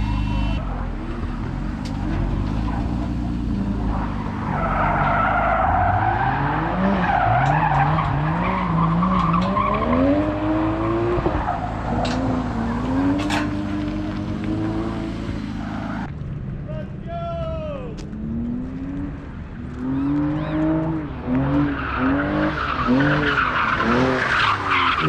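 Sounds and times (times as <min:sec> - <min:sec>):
car engine revving: 0:00.0 - 0:16.1, 0:18.0 - 0:25.0
tires squealing: 0:00.0 - 0:16.1, 0:18.3 - 0:25.0.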